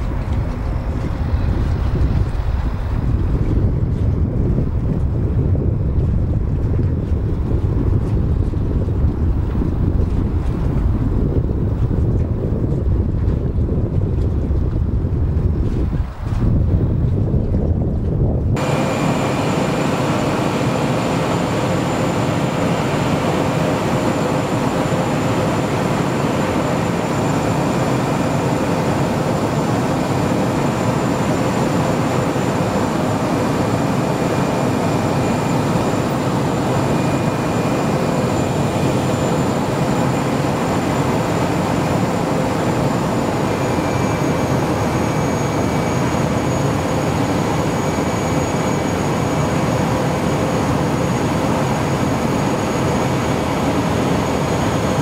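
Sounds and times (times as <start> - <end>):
airplane engine drone in cabin: 0.0 - 55.0
faint whine: 0.0 - 55.0.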